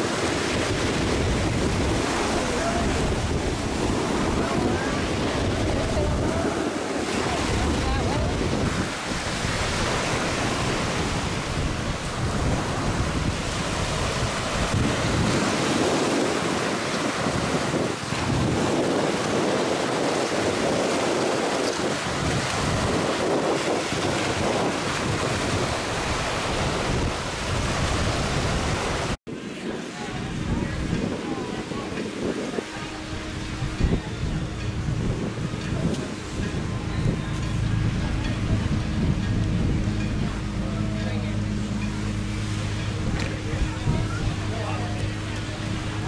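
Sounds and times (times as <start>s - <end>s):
sea surf breaking: 0.0s - 46.0s
wind buffeting microphone: 0.0s - 46.0s.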